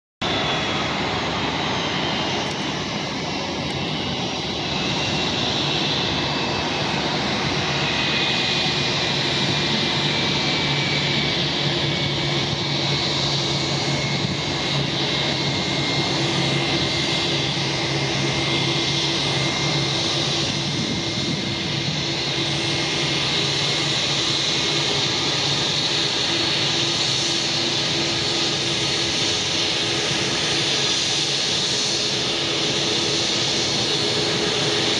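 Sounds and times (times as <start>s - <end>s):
jet engines whining: 0.2s - 34.9s.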